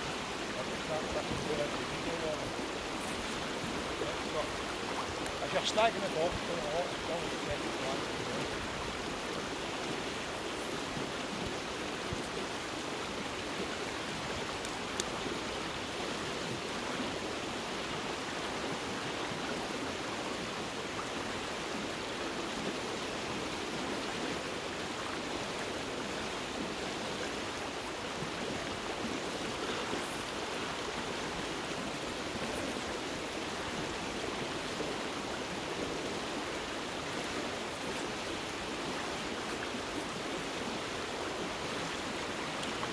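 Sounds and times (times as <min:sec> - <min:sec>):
river water rushing over stones: 0:00.0 - 0:42.9.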